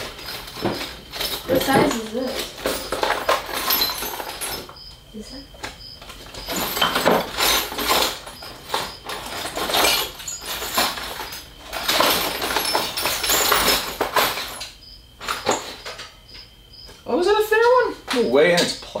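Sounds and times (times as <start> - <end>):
small metal parts clattering: 0.0 - 16.5.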